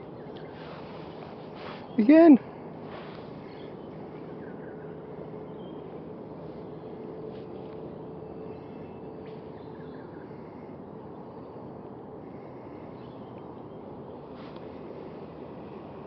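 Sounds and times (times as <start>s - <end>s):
faint steady hum: 0.0s - 16.0s
outdoor background noise on water: 0.0s - 16.0s.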